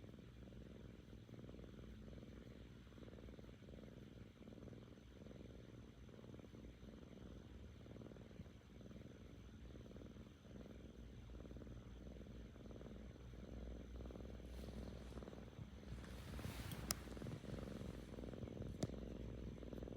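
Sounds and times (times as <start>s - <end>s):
kitten purring: 0.0s - 19.9s.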